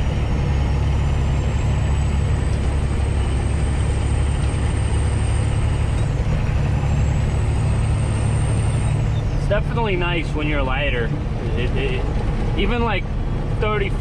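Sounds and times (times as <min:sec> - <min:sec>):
road noise: 0:00.0 - 0:14.0
truck engine droning: 0:00.0 - 0:14.0.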